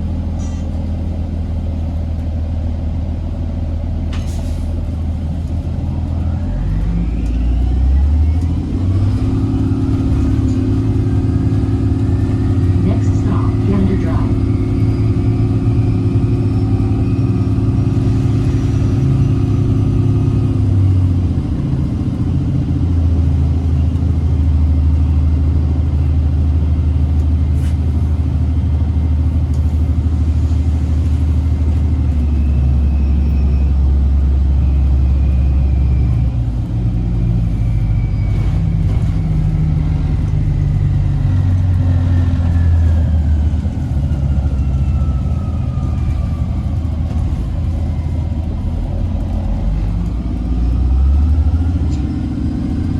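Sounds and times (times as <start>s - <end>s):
diesel engine humming low: 0.0s - 52.9s.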